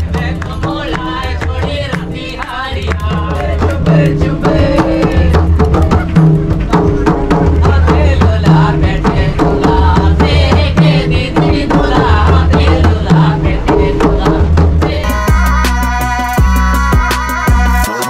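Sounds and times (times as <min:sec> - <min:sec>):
song with steady drum beat: 0:00.0 - 0:18.0.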